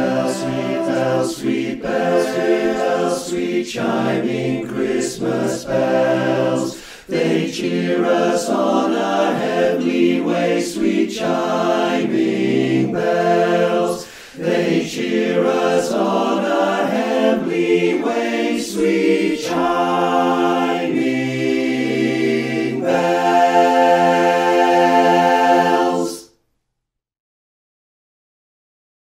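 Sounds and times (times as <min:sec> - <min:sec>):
men's chorus singing a cappella: 0:00.0 - 0:26.3.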